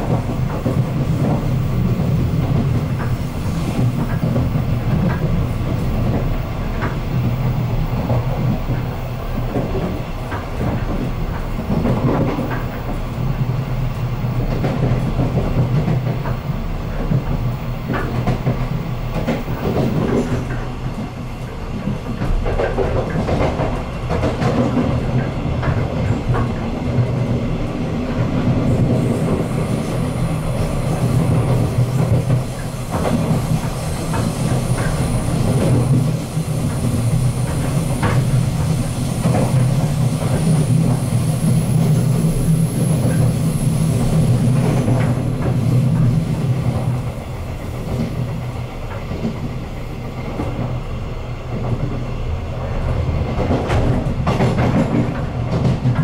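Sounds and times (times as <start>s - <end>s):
train running low rumble: 0.0s - 56.0s.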